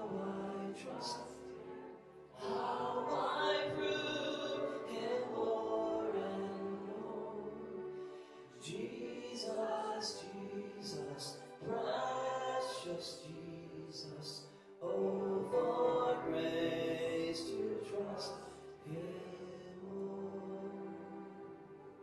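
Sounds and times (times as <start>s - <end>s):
piano accompaniment: 0.0s - 14.2s, 14.8s - 22.0s
voices singing a hymn: 0.0s - 22.0s.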